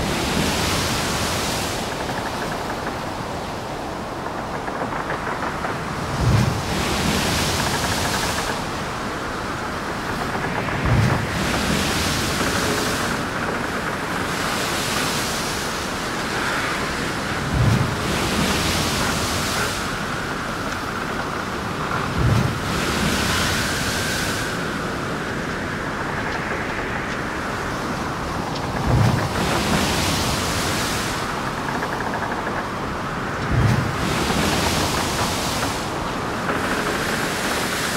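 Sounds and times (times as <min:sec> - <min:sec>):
waves breaking: 0:00.0 - 0:37.9
wind and water rushing: 0:00.0 - 0:37.9.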